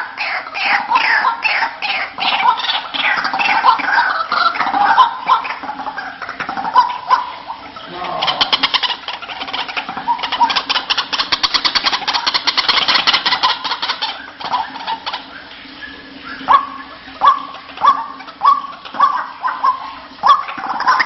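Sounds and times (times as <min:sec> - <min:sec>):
waterhen rattling chatter: 0:00.0 - 0:21.0
waterhen sharp rising calls: 0:00.0 - 0:21.0.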